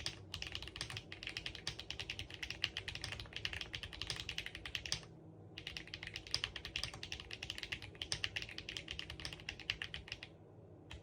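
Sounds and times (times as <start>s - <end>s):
mechanical keyboard typing: 0.0s - 10.3s.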